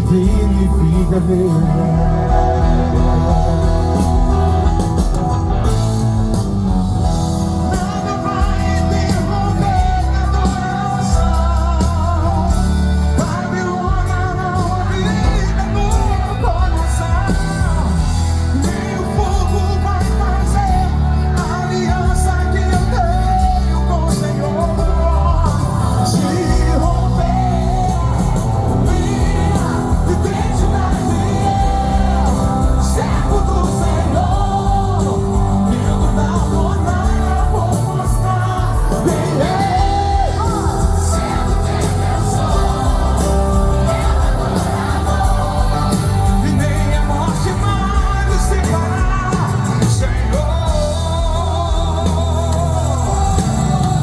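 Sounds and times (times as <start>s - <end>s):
person singing: 0.0s - 5.1s, 7.5s - 54.0s
live band playing gospel: 0.0s - 54.0s.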